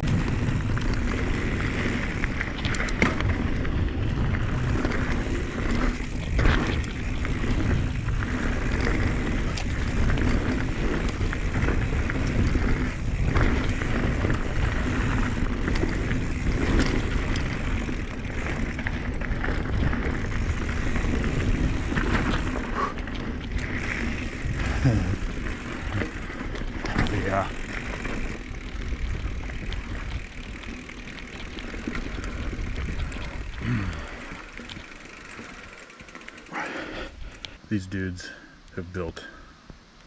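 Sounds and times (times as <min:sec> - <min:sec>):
wind buffeting microphone: 0:00.0 - 0:35.2
tyres rumbling over dirt: 0:00.0 - 0:37.4
bike chain and frame clicks: 0:00.0 - 0:37.6.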